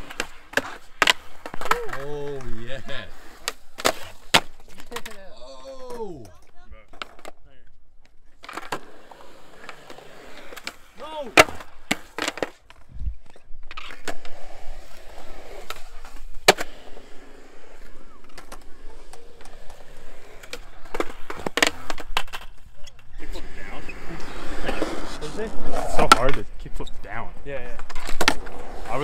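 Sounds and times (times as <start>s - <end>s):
skateboards clacking on ground: 0.0s - 7.4s, 8.0s - 26.6s, 27.5s - 29.0s
skateboard wheels rolling on concrete: 0.0s - 29.0s.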